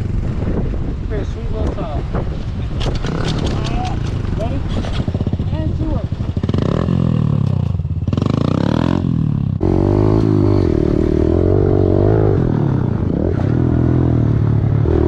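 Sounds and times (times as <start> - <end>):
pit bike engine revving: 2.9 - 15.0.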